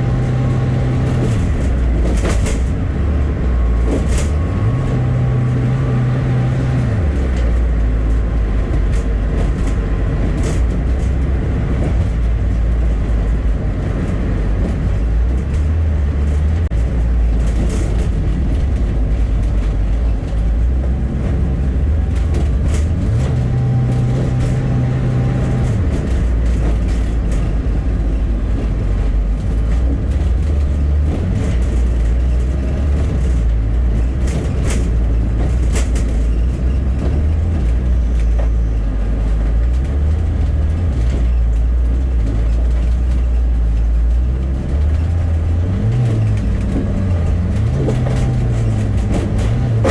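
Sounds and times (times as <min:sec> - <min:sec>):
bus engine droning: 0:00.0 - 0:49.9
road noise: 0:00.0 - 0:49.9.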